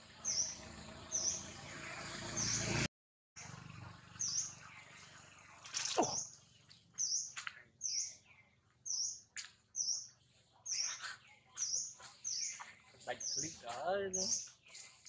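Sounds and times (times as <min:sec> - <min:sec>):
bird chirping: 0:00.1 - 0:02.8, 0:04.1 - 0:15.0.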